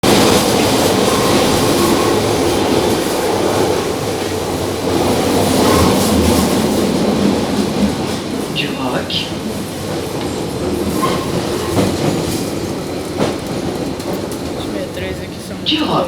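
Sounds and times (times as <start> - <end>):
train wheels on track: 0.0 - 16.0.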